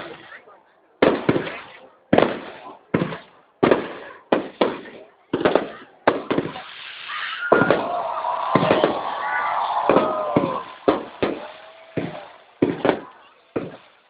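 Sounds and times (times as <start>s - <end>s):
fireworks bangs: 1.0s - 14.0s
fireworks crackling barrage: 1.0s - 14.0s.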